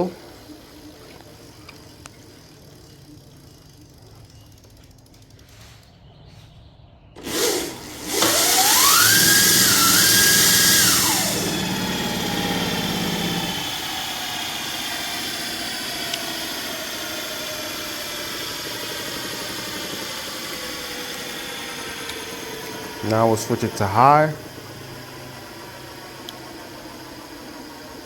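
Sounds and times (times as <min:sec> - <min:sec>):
electric motor whine: 0:00.0 - 0:05.8, 0:07.2 - 0:28.0
wheel and drive whirring: 0:00.0 - 0:28.0.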